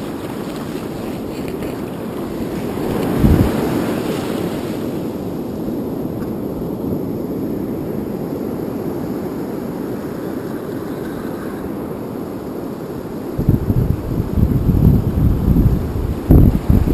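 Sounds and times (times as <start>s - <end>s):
wind buffeting microphone: 0.0s - 12.1s, 13.3s - 16.9s
ocean surf rushing: 0.0s - 16.9s.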